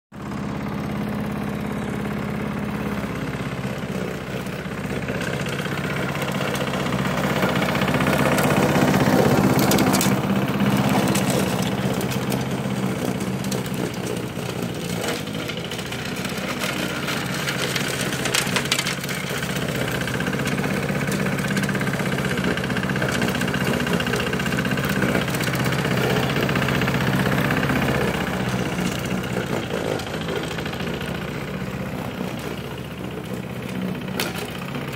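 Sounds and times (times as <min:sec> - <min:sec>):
lawn mower engine running: 0:00.1 - 0:34.9.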